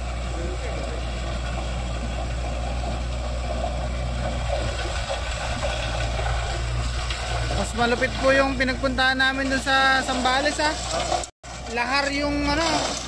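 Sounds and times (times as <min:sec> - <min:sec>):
diesel tractor running: 0:00.0 - 0:13.0
rotary tiller churning soil: 0:00.0 - 0:13.0.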